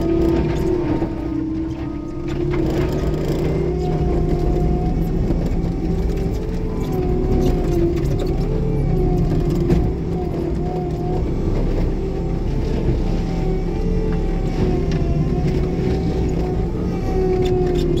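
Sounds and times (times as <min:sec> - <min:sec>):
diesel engine and mulcher running: 0:00.0 - 0:18.0.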